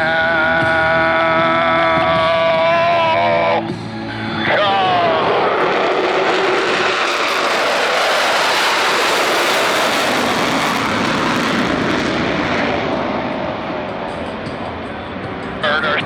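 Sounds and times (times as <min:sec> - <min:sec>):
jet engines passing: 0:00.0 - 0:16.0.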